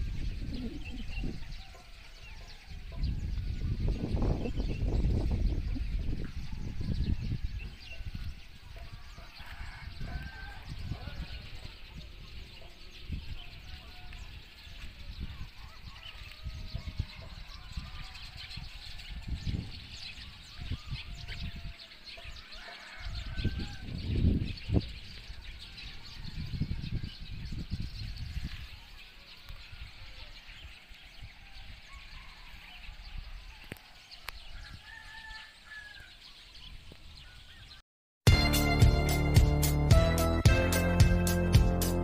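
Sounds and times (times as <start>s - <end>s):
chickens and birds calling: 0.0s - 42.0s.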